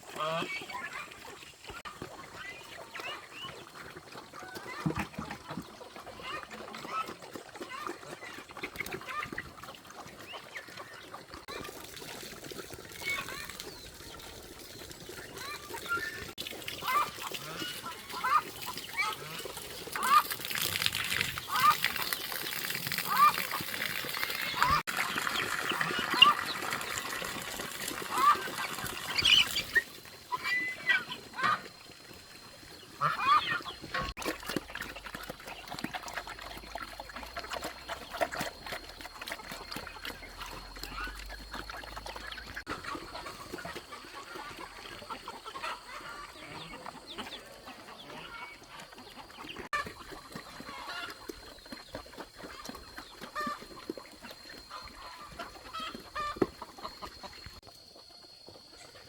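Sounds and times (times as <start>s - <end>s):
poultry clucking: 0.0s - 59.0s.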